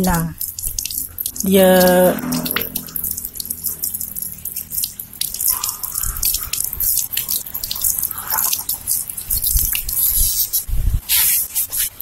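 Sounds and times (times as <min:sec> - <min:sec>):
tap water running over hand: 0:00.0 - 0:10.6
water splashing and dripping: 0:00.0 - 0:11.9.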